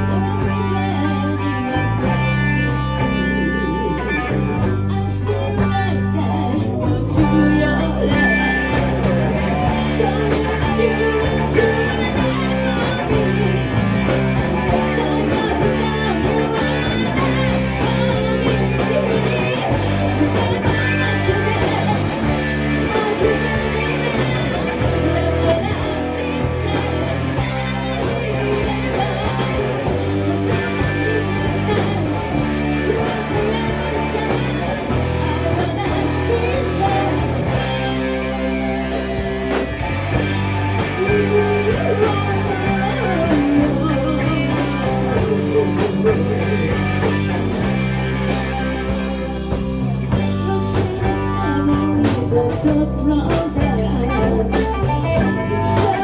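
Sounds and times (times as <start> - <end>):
rock song with singing: 0.0 - 56.0.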